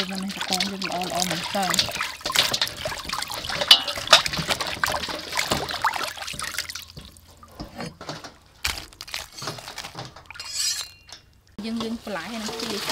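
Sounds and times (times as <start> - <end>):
water splashing in metal basin: 0.0 - 12.9.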